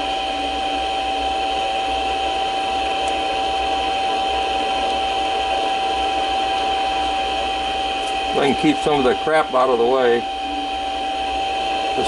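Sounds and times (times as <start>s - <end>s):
lathe motor whining: 0.0s - 12.0s.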